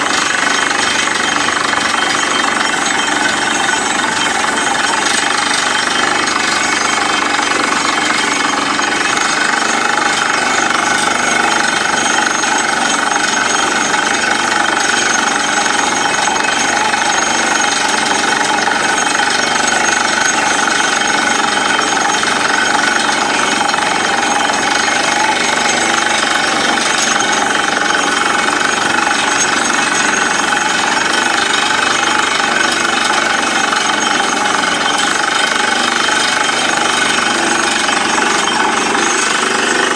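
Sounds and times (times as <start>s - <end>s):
air hammer drilling rock: 0.0s - 39.9s
drilling rig engine: 0.0s - 39.9s.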